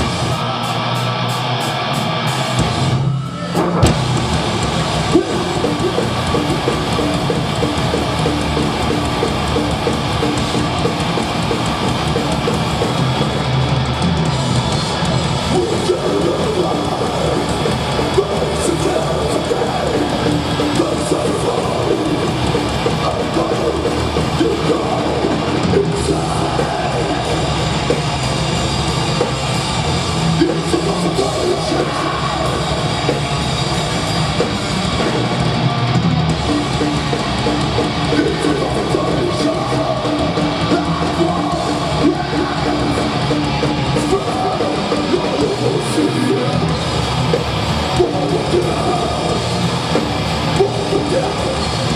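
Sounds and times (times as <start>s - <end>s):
death metal band playing live: 0.0s - 51.9s.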